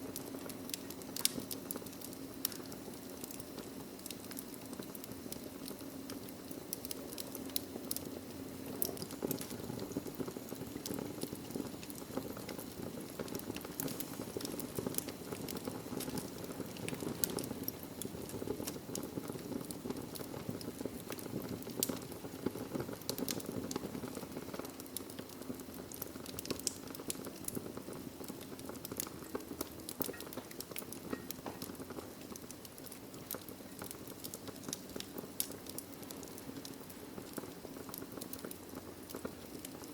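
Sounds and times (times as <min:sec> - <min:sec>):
logs crackling and popping: 0:00.0 - 0:39.9
low rush of flame: 0:00.0 - 0:39.9.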